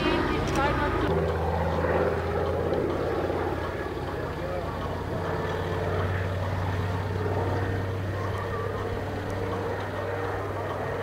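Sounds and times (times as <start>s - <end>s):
aircraft propeller engines droning: 0.0s - 11.0s.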